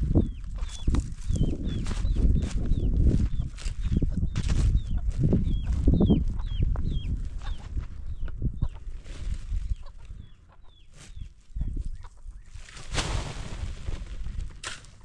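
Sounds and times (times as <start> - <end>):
chickens peeping: 0.0 - 12.6.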